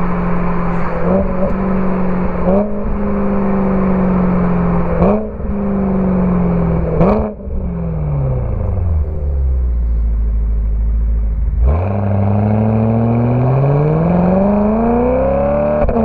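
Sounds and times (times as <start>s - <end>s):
car engine revving through gears: 0.0s - 16.0s.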